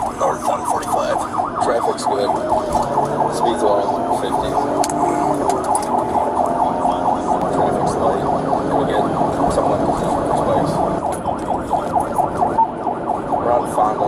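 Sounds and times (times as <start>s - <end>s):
police siren yelping: 0.0s - 14.0s.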